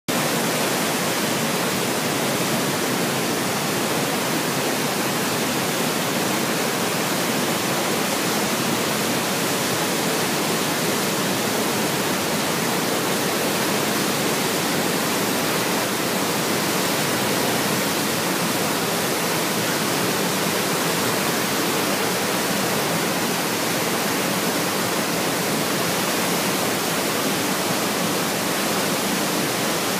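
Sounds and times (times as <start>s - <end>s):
water rushing over a weir: 0.1s - 29.9s.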